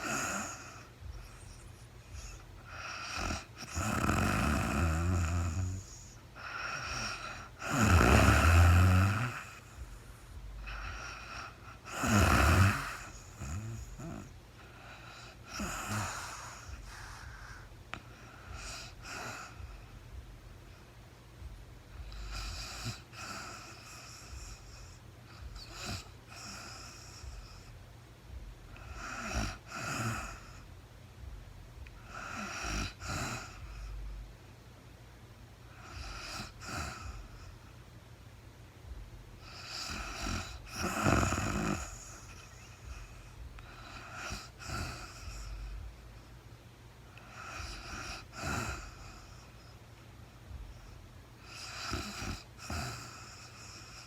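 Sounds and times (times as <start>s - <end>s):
woman snoring: 0.0s - 20.0s, 22.0s - 27.7s, 28.7s - 30.7s, 31.8s - 34.2s, 35.8s - 37.7s, 39.4s - 45.9s, 47.2s - 49.8s, 50.7s - 54.0s.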